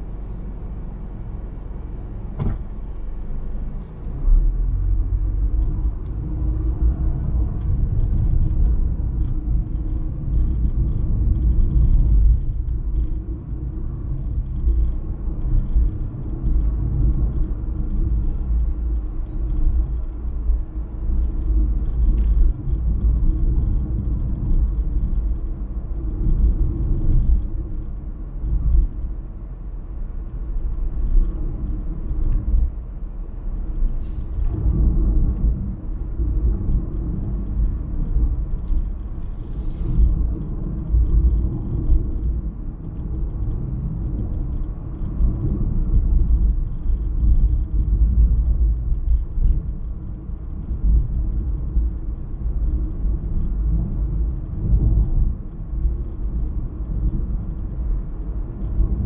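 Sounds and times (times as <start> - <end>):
road and engine rumble: 0.0 - 59.0.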